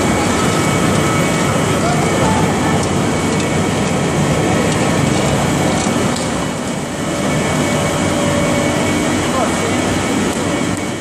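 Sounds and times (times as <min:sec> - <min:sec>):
pellet mill running: 0:00.0 - 0:11.0.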